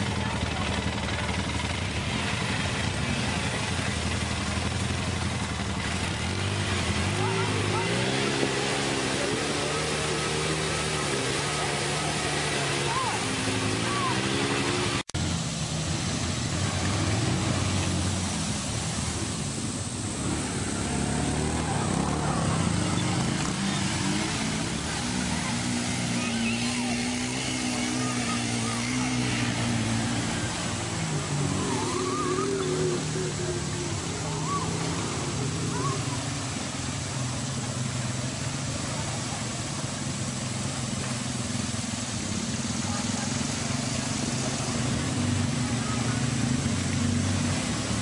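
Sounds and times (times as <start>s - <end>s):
quad engine droning: 0.0s - 48.0s
water churning: 0.0s - 48.0s.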